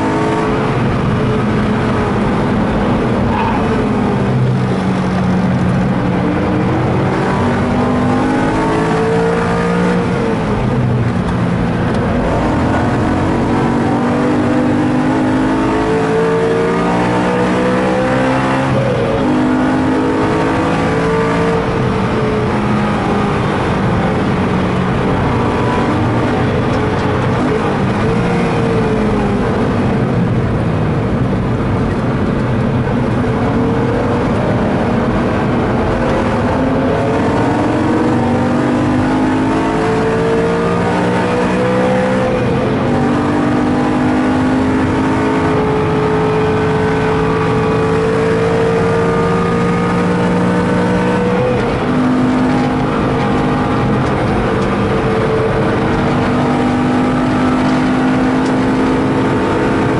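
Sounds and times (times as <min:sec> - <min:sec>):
car engine accelerating: 0:00.0 - 0:59.9
tyre and road noise: 0:00.0 - 0:59.9.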